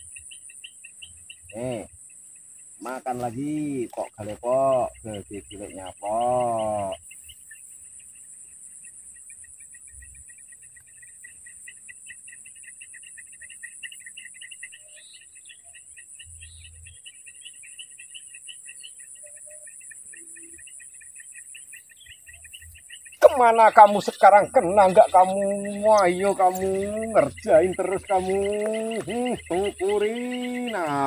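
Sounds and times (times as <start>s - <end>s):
high-pitched insect buzz: 0.0s - 31.0s
insects chirping: 0.0s - 31.0s.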